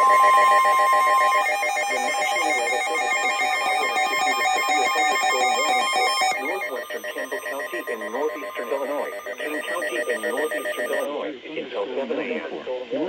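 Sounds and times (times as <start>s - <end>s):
rapidly pulsing electronic alert: 0.0s - 11.1s
steady alert tone: 0.0s - 11.1s.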